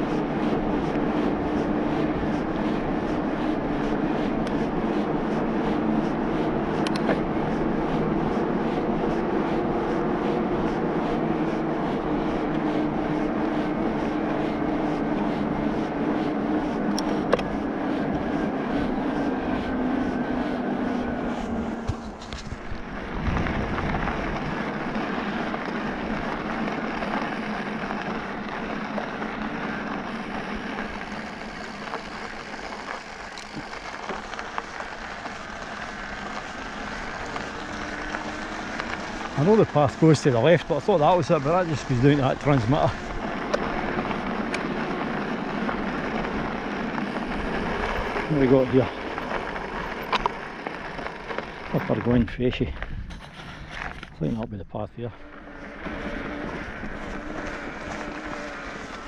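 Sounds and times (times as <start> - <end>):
electric motor hum: 0.0 - 53.0, 53.6 - 59.0
tyres rolling on gravel: 0.0 - 59.0
tyres rolling on tarmac: 0.0 - 59.0.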